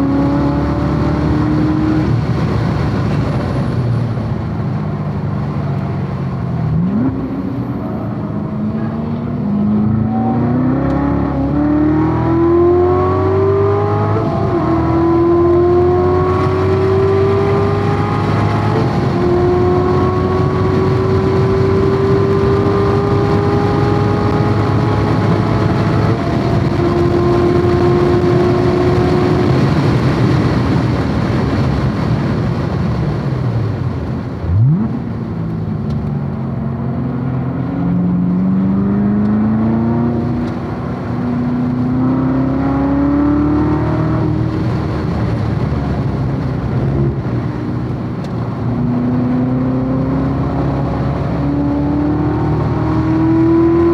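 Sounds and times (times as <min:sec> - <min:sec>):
car engine accelerating hard: 0:00.0 - 0:53.9
wind and tyre noise: 0:00.0 - 0:53.9.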